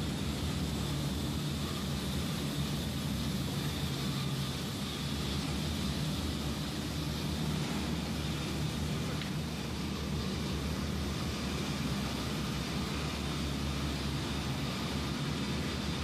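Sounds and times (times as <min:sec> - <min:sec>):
construction machinery drone: 0:00.0 - 0:16.0
faint high whine: 0:00.0 - 0:16.0.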